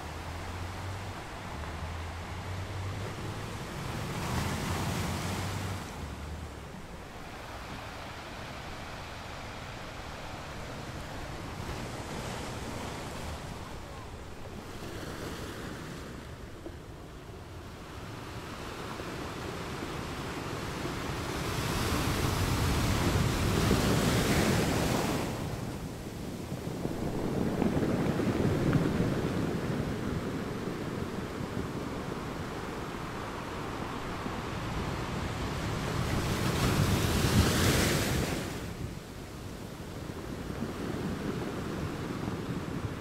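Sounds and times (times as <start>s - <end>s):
ocean waves breaking: 0.0s - 43.0s.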